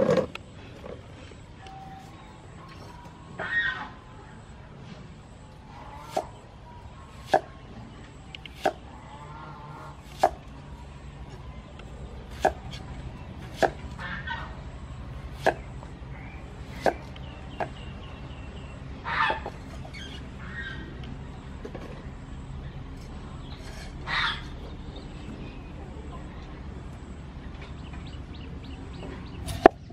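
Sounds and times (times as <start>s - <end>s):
chickens calling: 0.0s - 25.8s.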